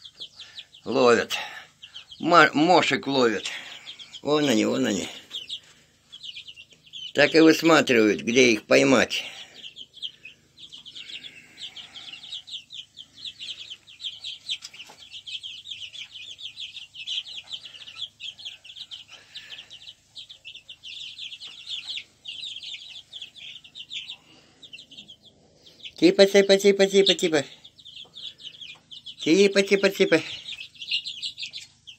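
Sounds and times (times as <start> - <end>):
chicks peeping: 0.0 - 31.9.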